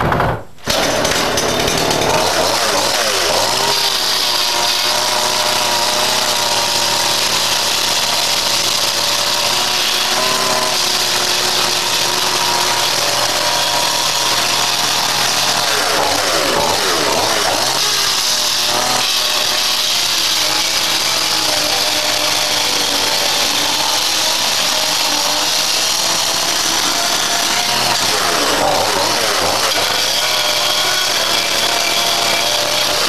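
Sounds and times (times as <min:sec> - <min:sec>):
chainsaw cutting through wall: 0:00.0 - 0:33.0.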